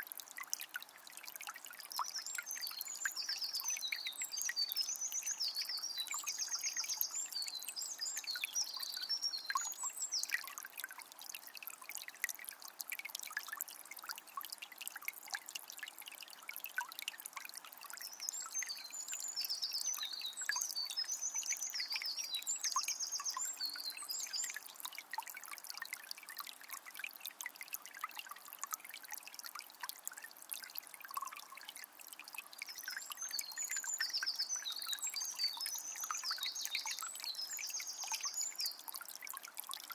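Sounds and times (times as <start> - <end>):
river trickling and babbling: 0.0 - 39.9.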